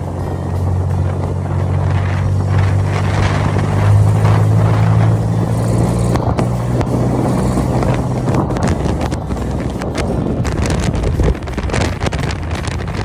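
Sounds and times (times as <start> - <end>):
motorcycle engine cruising: 0.0 - 13.0
wind noise on microphone: 0.0 - 13.0.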